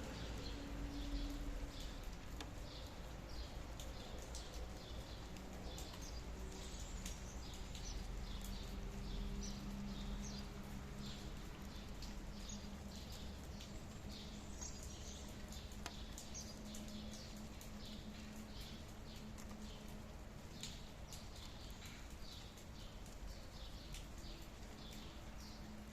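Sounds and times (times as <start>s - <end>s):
low background noise: 0.0s - 25.9s
small birds chirping: 0.2s - 25.9s.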